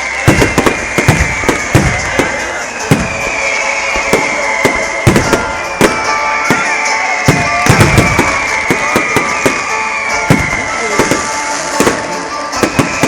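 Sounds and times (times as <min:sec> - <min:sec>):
falling high whistling tone: 0:00.0 - 0:13.0
fireworks bangs: 0:00.0 - 0:13.0.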